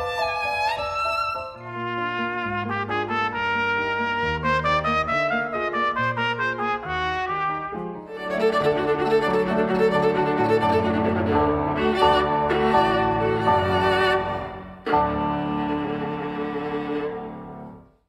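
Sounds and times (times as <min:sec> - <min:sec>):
violin playing: 0:00.0 - 0:17.8
grand piano accompaniment: 0:00.0 - 0:18.0
trumpet melody: 0:00.1 - 0:17.8.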